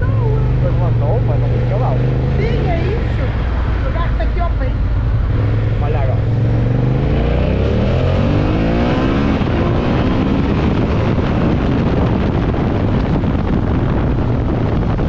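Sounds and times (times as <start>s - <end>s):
motorcycle engine accelerating: 0.0s - 15.0s
wind rushing over microphone: 0.0s - 15.0s.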